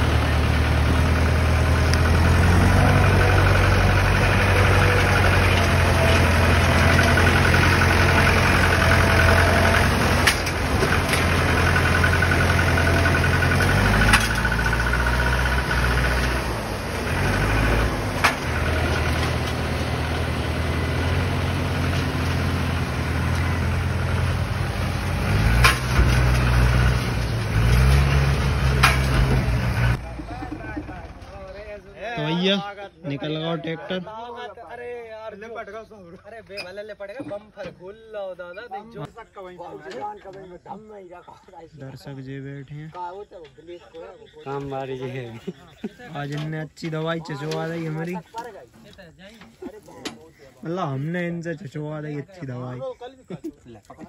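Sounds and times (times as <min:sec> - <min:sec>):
diesel tractor engines under load: 0:00.0 - 0:33.7, 0:41.8 - 0:54.0.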